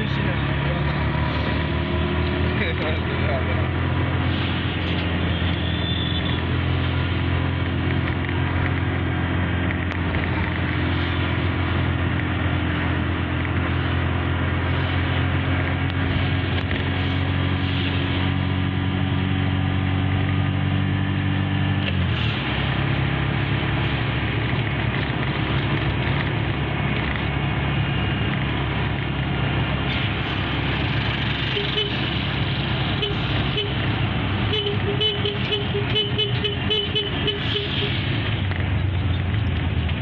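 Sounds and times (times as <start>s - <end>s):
road noise: 0.0s - 40.0s
vehicle engine hum: 0.0s - 40.0s.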